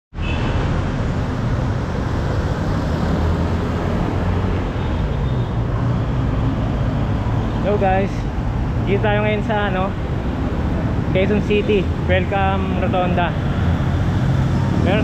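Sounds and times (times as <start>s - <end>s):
city road traffic: 0.1s - 15.0s.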